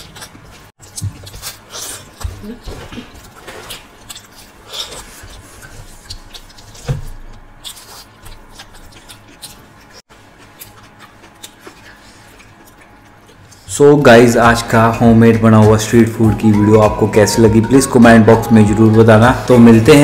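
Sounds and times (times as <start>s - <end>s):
chewing and mouth sounds: 0.0s - 19.5s.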